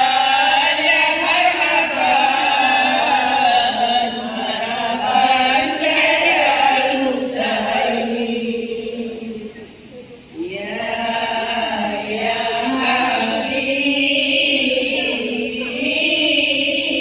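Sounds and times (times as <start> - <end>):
women chanting in unison: 0.0 - 9.6, 10.2 - 17.0.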